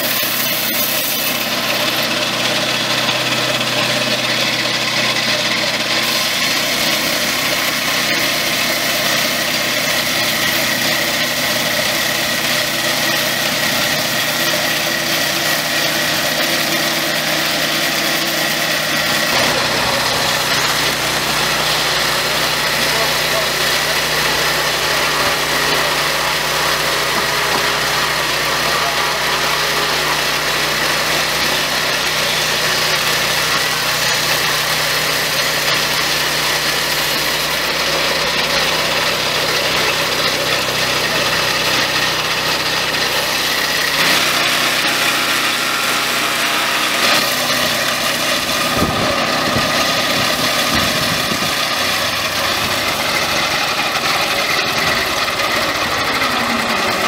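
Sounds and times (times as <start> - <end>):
sawmill petrol engine running: 0.0 - 57.0.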